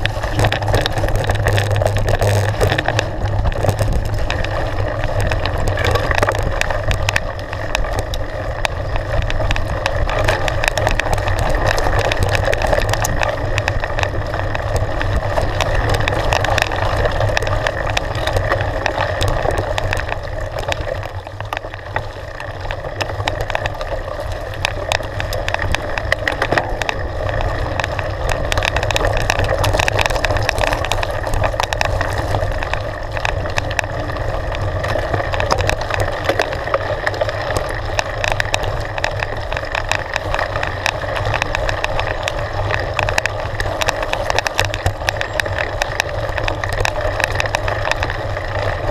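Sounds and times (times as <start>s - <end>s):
bike rattling and clicking: 0.0s - 48.9s
tyres rumbling over gravel: 0.0s - 48.9s
wind on microphone: 0.0s - 48.9s.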